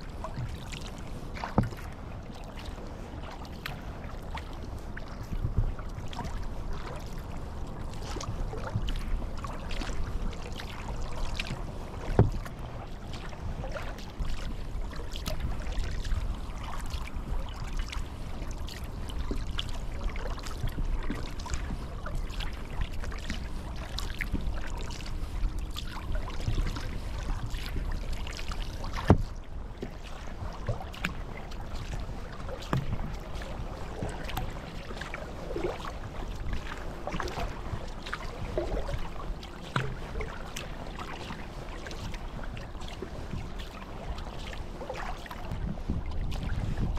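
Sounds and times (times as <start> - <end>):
paddle dripping and splashing: 0.0 - 46.9.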